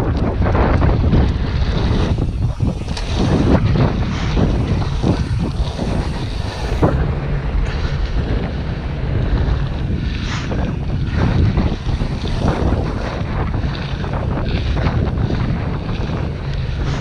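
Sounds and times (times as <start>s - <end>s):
bike tyres rolling on dirt: 0.0s - 17.0s
wind buffeting microphone: 0.0s - 17.0s.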